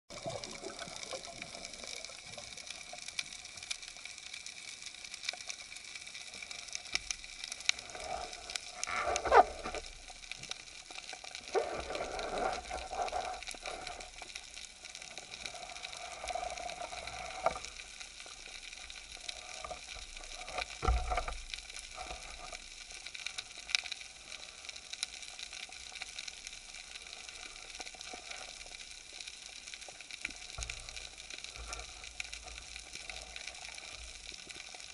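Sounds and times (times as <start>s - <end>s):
underwater crackling hiss: 0.1s - 34.9s
water swishes: 0.1s - 34.9s.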